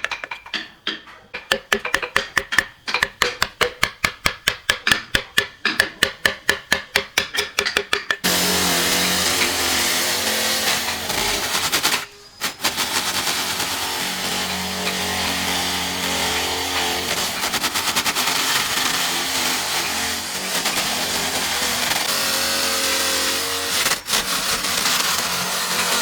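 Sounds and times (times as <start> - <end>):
rapid tool strikes: 1.4 - 26.0
power tool humming: 4.9 - 26.0.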